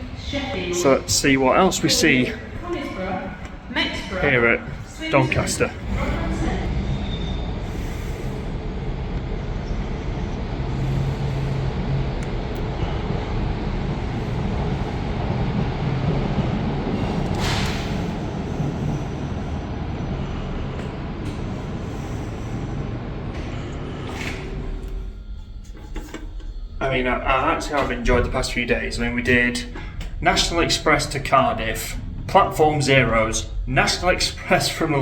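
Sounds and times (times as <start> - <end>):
train rumble and hum: 0.0 - 35.0.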